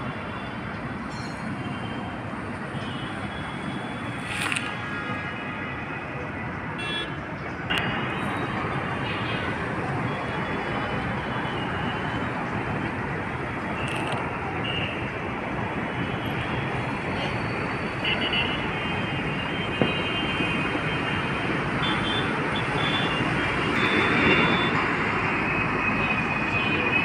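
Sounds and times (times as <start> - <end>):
city road traffic: 0.0 - 27.0.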